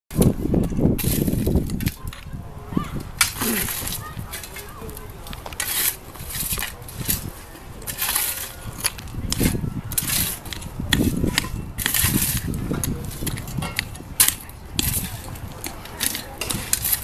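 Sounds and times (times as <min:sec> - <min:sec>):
people talking: 0:00.2 - 0:17.0.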